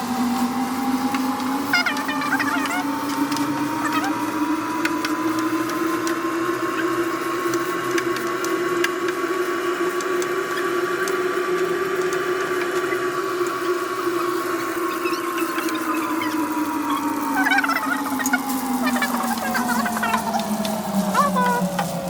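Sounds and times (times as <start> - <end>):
motor hum with held tones: 0.0 - 22.0.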